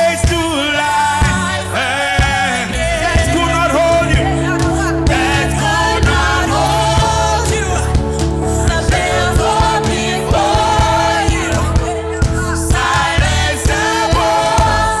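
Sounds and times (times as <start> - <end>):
band playing: 0.0 - 15.0
singers holding long notes: 0.0 - 15.0.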